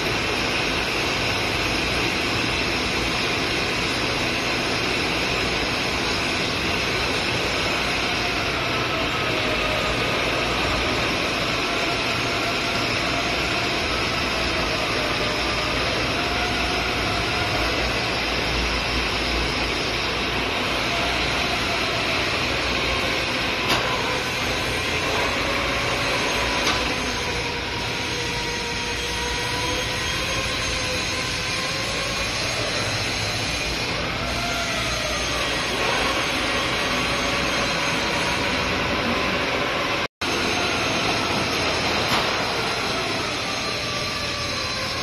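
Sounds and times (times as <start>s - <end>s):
metal lathe running: 0.0s - 45.0s.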